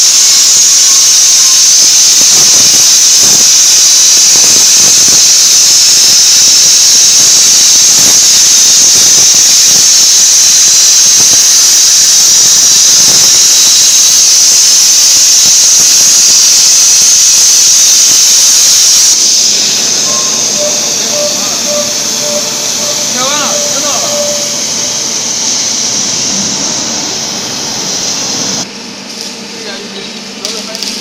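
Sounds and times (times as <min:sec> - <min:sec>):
plasma torch hissing: 0:00.0 - 0:28.7.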